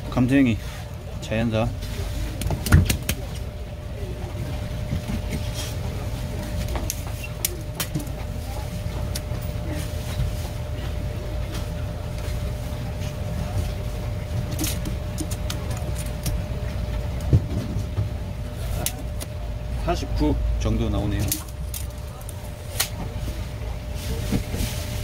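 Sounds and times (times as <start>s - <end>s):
low hum with faint tone: 0.0s - 25.0s.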